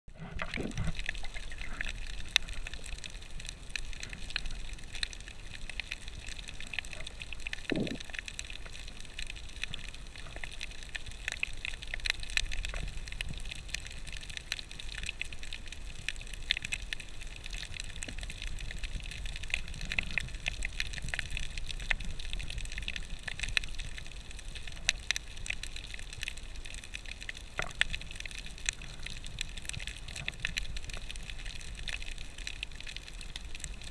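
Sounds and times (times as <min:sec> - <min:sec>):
crackling clicks: 0:00.1 - 0:33.9
underwater rumble of moving water: 0:00.1 - 0:33.9.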